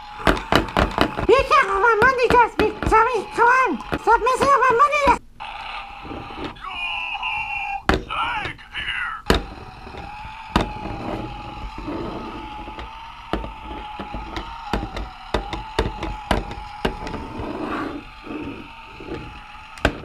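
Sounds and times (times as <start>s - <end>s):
faint electronic hum: 0.0s - 17.4s.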